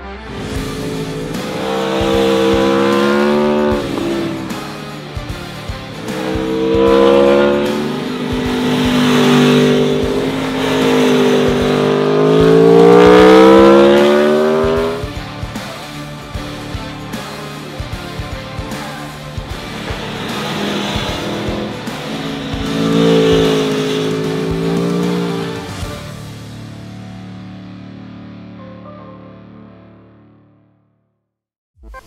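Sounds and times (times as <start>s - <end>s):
motorcycle engine revving: 0.2s - 27.5s.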